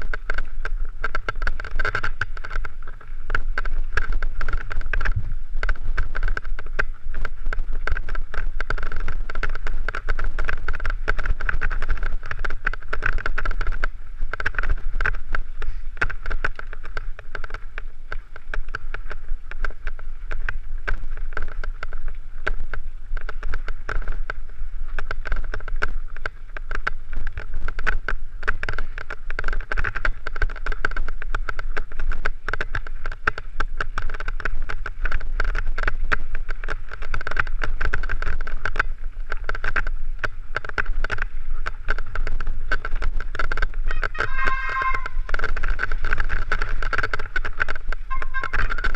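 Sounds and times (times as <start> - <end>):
bike clattering over stones: 0.0 - 48.9
wind rumble on microphone: 0.0 - 48.9.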